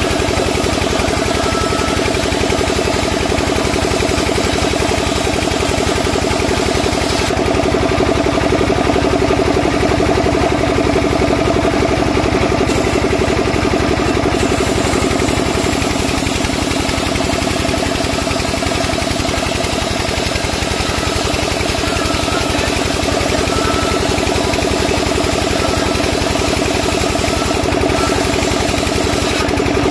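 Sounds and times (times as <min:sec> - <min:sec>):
band saw cutting timber: 0:00.0 - 0:07.4, 0:12.6 - 0:29.9.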